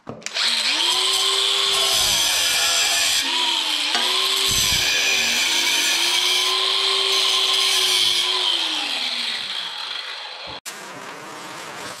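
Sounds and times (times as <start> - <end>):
angle grinder cutting metal: 0.3 - 12.0.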